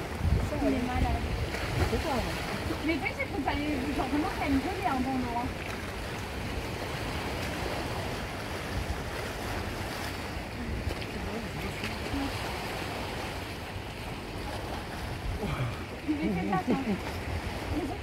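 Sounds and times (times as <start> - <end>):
surf washing against rocks: 0.0 - 18.0
wind rumbling on microphone: 0.0 - 18.0.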